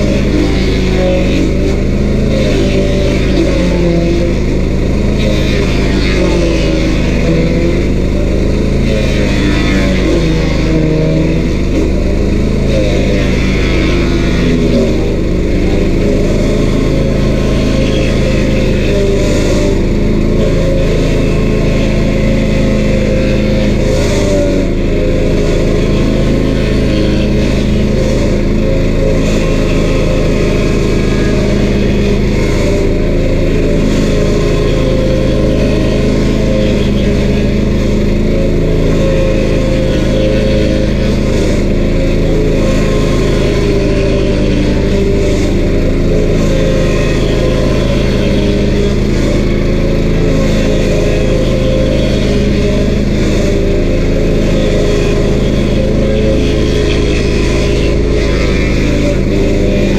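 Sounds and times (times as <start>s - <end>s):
stump grinder engine running: 0.0s - 59.9s.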